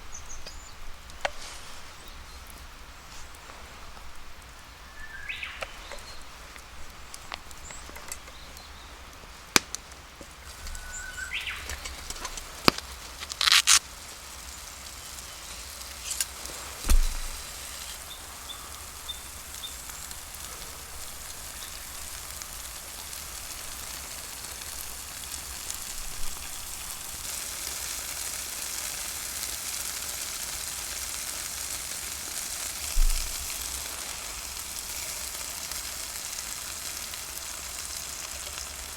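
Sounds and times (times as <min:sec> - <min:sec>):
food sizzling in a pan: 0:00.0 - 0:08.8, 0:10.3 - 0:38.9.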